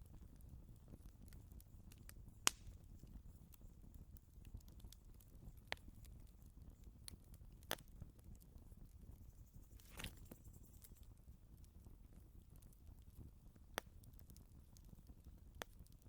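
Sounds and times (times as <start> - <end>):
fire pops: 0.0 - 11.9, 12.6 - 16.0
wood fire crackling: 0.0 - 16.0.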